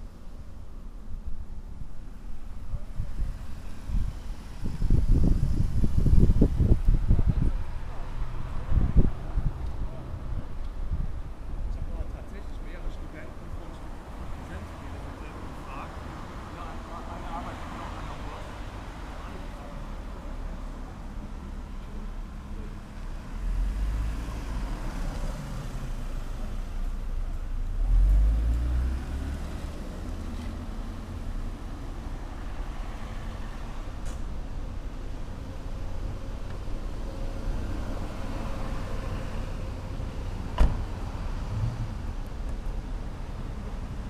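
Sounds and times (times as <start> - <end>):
road vehicles passing: 0.0 - 44.0.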